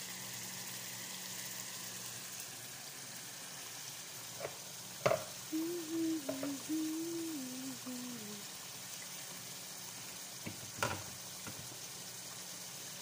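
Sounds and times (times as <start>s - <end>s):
sauce sizzling in a pot: 0.0s - 13.0s.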